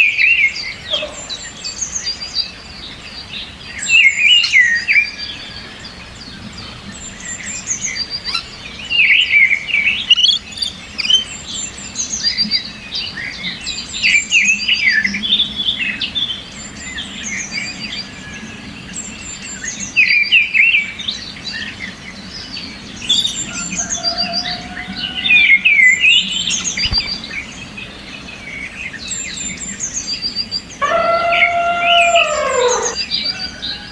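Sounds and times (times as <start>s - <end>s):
songbirds singing and chirping: 0.0s - 33.9s.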